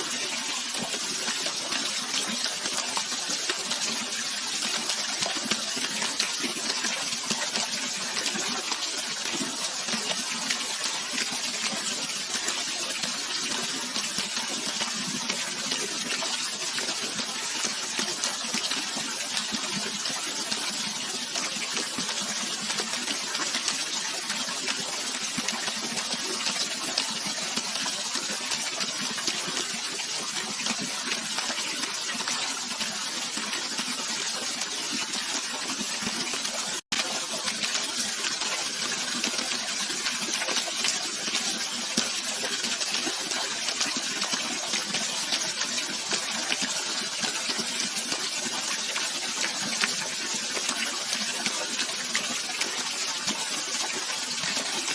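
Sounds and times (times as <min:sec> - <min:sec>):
flowing water rushing: 0:00.0 - 0:54.9.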